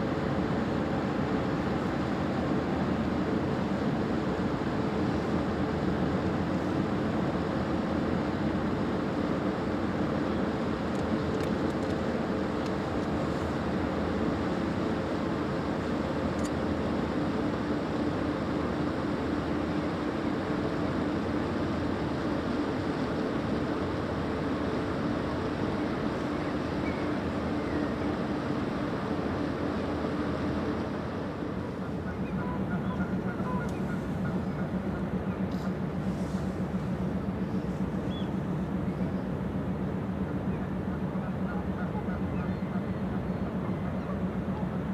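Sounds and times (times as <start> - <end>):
ship machinery humming: 0.0 - 44.9.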